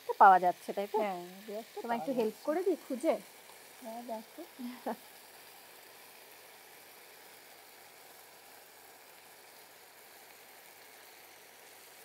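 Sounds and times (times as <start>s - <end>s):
faint fish sizzling in a wok: 0.0s - 12.0s.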